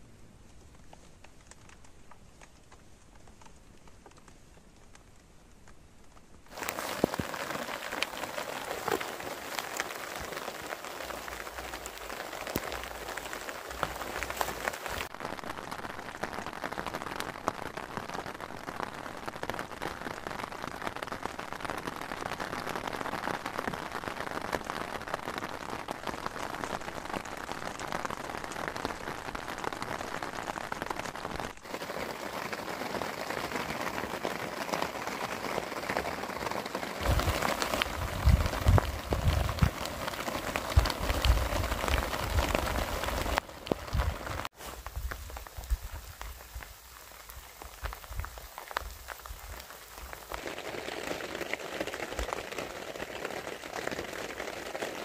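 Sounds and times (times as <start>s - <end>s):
rain pattering on tent fabric: 0.0s - 55.0s.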